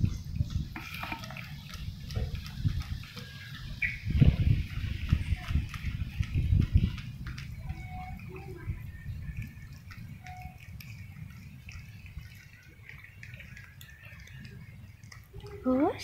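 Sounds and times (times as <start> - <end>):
cats chewing and licking: 0.2 - 16.0.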